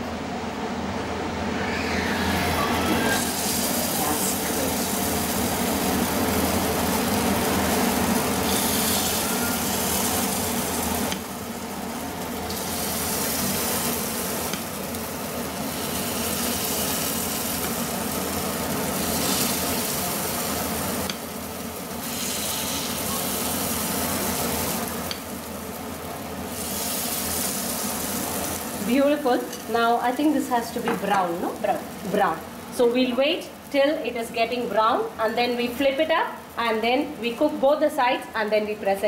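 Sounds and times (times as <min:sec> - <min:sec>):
batter sizzling in a hot pan: 0:03.1 - 0:38.9.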